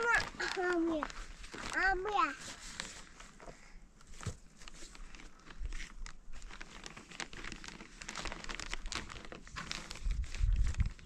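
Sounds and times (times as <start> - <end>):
blanket rustling: 0.0 - 3.4, 4.1 - 11.0
roof sheeting crinkling: 0.0 - 11.0.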